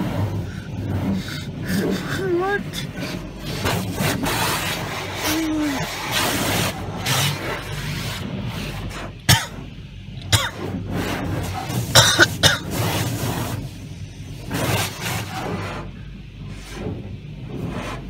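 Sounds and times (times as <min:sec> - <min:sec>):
water rushing over window glass: 0:00.0 - 0:18.0.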